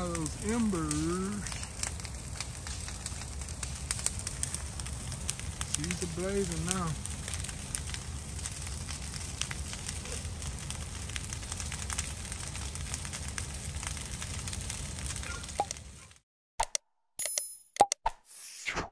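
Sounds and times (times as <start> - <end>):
fire roaring with crackles and pops: 0.0 - 16.2.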